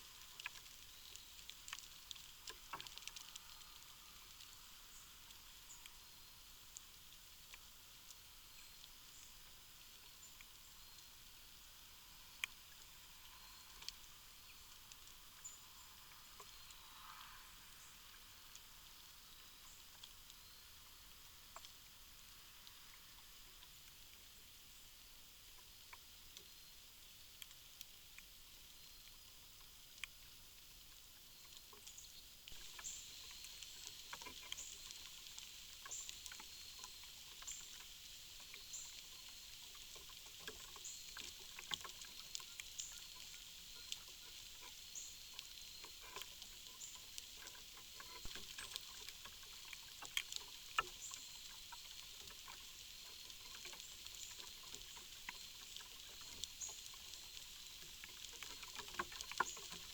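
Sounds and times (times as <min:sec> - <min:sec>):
soft clicks and rustles: 0:00.0 - 0:59.9.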